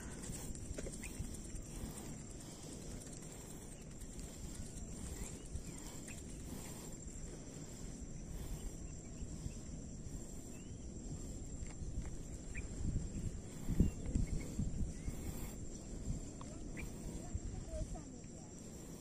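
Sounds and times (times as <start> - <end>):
faint chirps: 0.0 - 19.0
high-pitched insect drone: 0.0 - 19.0
low uneven rumble: 0.0 - 19.0.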